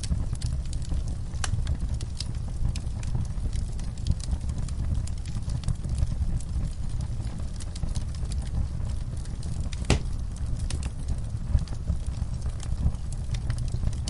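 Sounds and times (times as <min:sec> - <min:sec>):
fire crackling in fireplace: 0:00.0 - 0:14.0.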